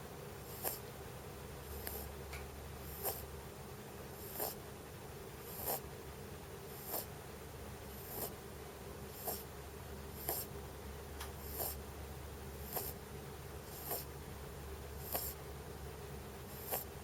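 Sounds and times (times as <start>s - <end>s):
rabbit snoring: 0.0s - 17.0s.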